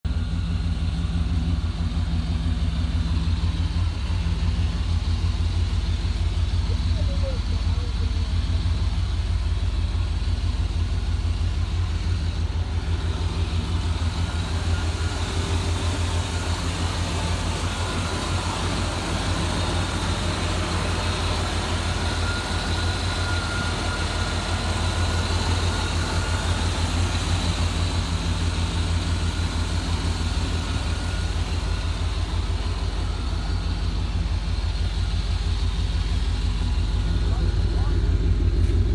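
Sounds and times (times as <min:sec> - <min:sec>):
pickup engine idling: 0:00.0 - 0:38.9.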